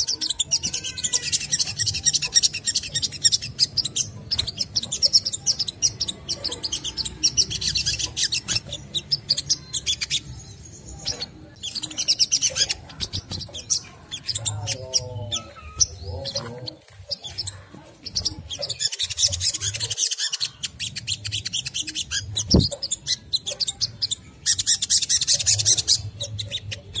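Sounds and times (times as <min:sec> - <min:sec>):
bird chattering trilling twitters: 0:00.0 - 0:27.0.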